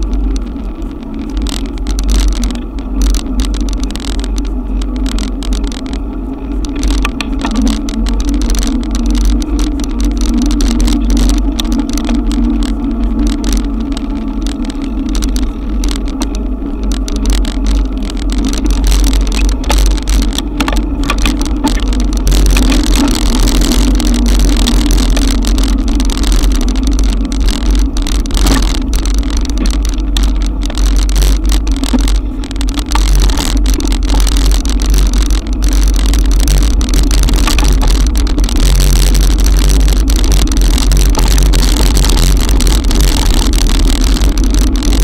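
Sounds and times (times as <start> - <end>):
electric bike hum: 0.0 - 45.0
wind and wet road rumble: 0.0 - 45.0.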